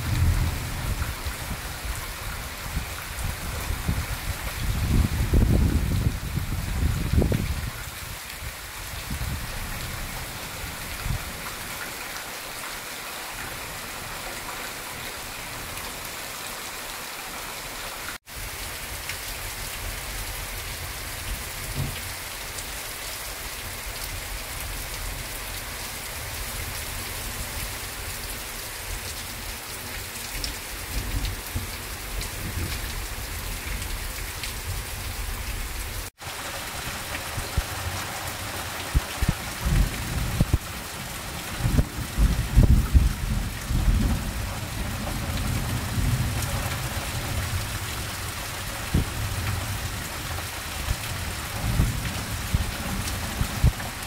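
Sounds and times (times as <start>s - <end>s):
heavy rain on foliage and roof: 0.0s - 54.0s.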